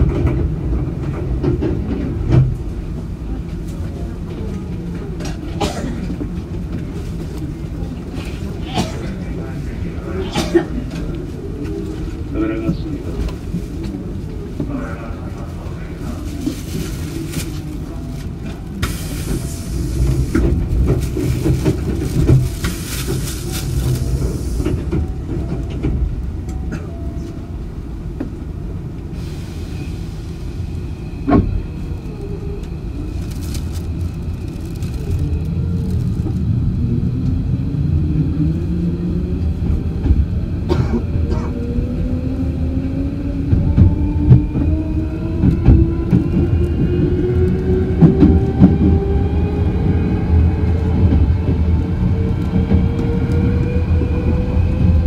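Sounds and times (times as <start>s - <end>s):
train running rumble and rattle: 0.0s - 55.0s.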